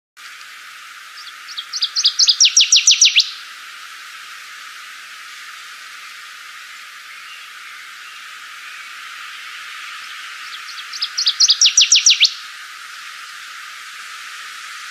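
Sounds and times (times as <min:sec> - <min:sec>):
steady hiss: 0:00.2 - 0:14.9
songbird singing: 0:01.0 - 0:03.8, 0:05.1 - 0:14.9.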